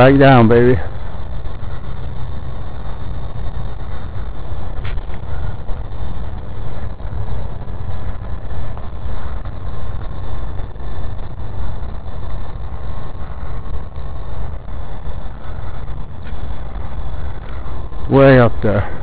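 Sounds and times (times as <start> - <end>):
rc helicopter motor whine: 0.0 - 19.0
wind buffeting microphone: 0.0 - 19.0.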